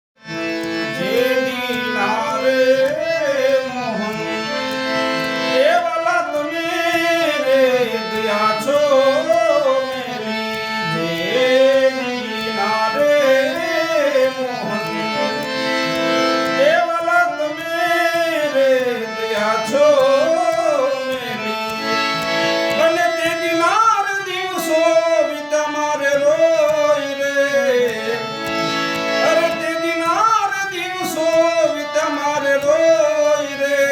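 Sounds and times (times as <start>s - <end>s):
reed organ chords: 0.2s - 33.8s
ornamented lead melody: 0.2s - 33.9s
tabla: 0.2s - 33.9s.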